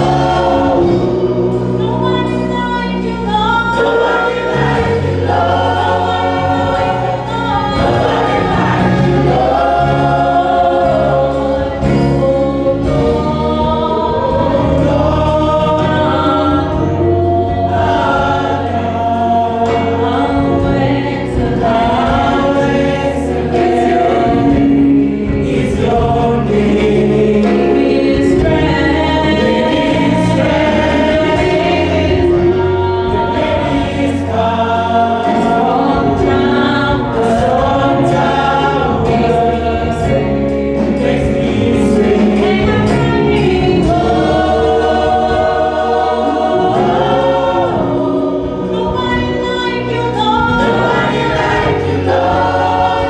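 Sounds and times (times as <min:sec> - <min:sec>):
choir singing gospel song: 0:00.0 - 0:53.0
held bass notes: 0:00.0 - 0:53.0.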